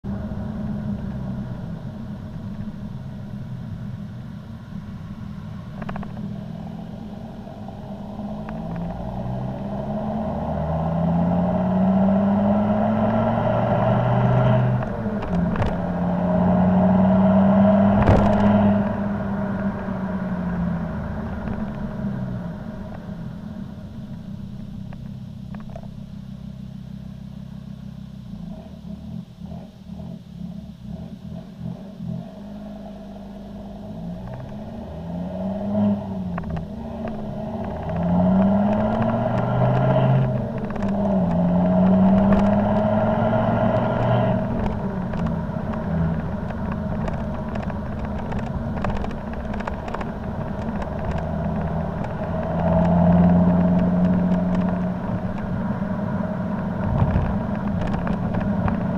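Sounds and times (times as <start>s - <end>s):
diesel car engine revving: 0.0s - 58.9s.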